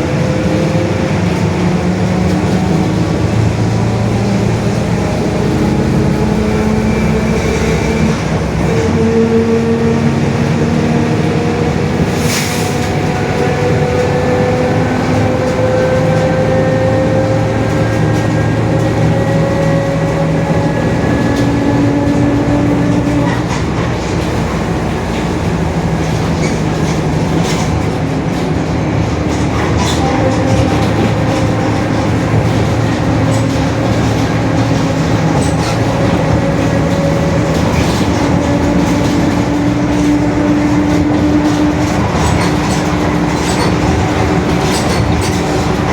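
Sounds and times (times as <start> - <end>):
bus diesel engine running: 0.0 - 45.9
growling differential: 0.0 - 45.9.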